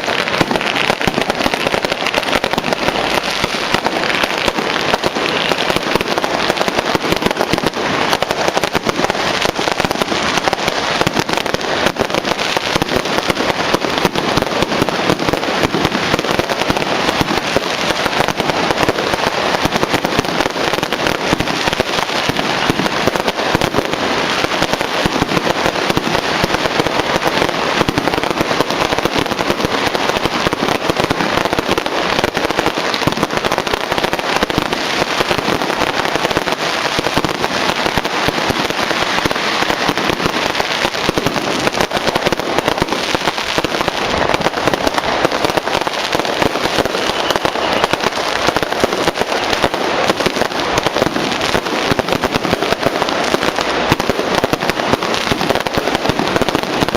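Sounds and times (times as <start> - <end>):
firecrackers crackling: 0.0 - 56.9.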